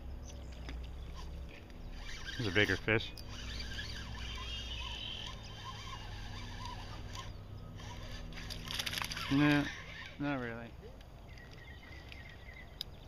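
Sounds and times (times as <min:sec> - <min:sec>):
fishing reel whirring: 0:00.0 - 0:13.0
light reel clicks: 0:00.5 - 0:10.4, 0:11.0 - 0:13.0.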